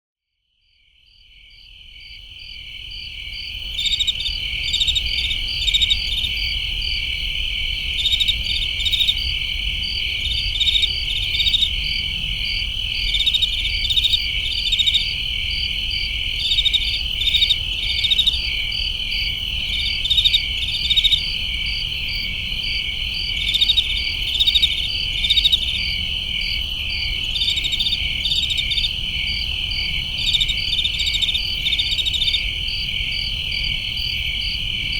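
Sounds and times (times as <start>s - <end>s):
crickets chirping: 0.6s - 34.9s.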